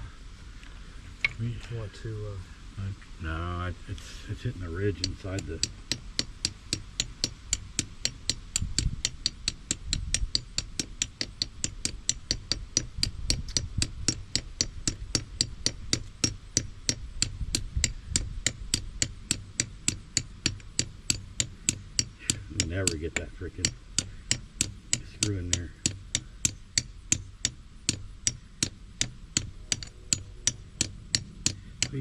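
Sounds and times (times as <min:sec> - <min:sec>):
mechanical ticking: 0:04.3 - 0:32.0.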